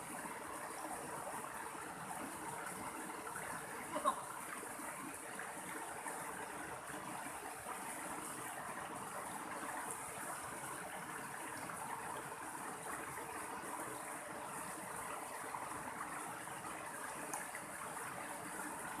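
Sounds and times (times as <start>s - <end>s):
mountain stream flowing: 0.0s - 19.0s.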